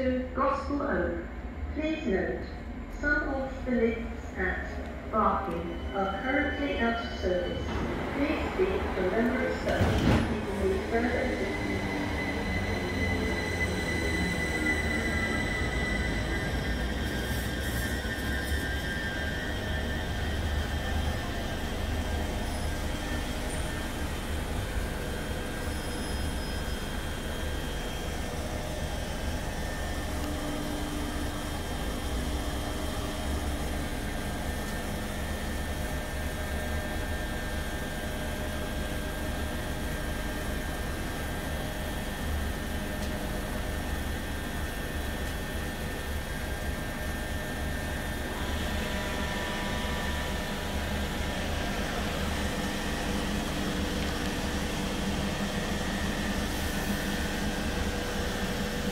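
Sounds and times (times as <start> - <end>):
electric train humming and whining: 0.0 - 58.9.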